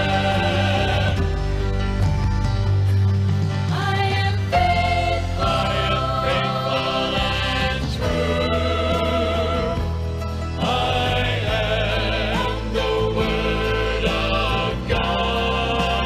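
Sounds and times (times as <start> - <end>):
gospel group singing in harmony: 0.0 - 1.6, 3.7 - 16.0.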